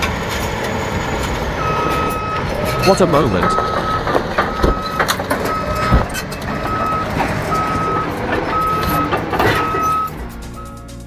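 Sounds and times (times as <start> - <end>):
engine rumble: 0.0 - 11.0
metal clanks: 0.0 - 11.0
reversing alarm beeping: 1.5 - 11.0.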